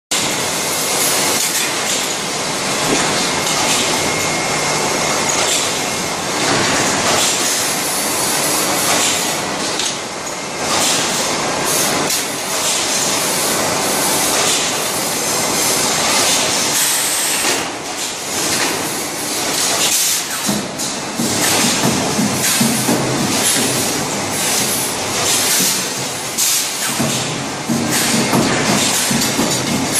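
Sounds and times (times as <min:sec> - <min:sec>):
loud welding machine noise: 0:00.1 - 0:29.9.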